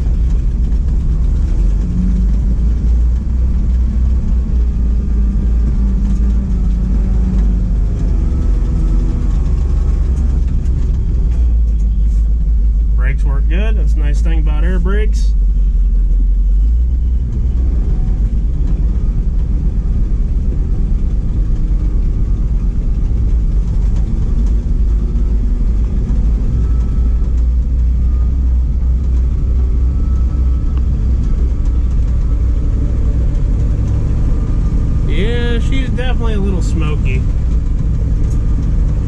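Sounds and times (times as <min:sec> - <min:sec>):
truck engine low rumble: 0:00.0 - 0:39.0.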